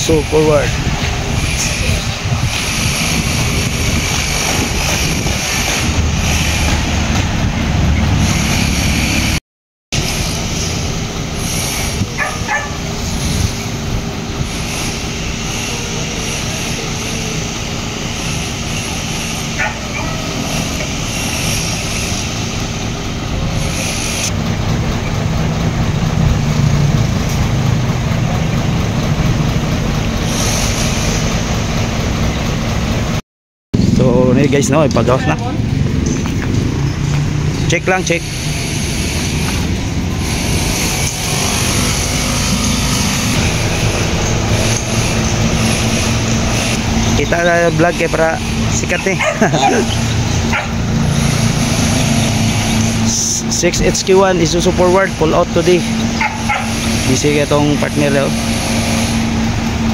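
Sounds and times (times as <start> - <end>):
truck diesel engine idling: 0.0 - 9.2, 10.0 - 33.2, 33.8 - 59.9.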